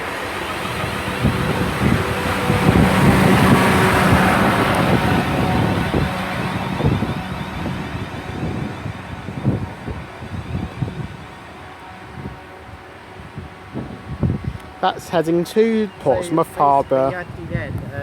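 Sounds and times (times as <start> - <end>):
electric train slowing: 0.0 - 18.0
wind buffeting microphone: 0.0 - 18.0.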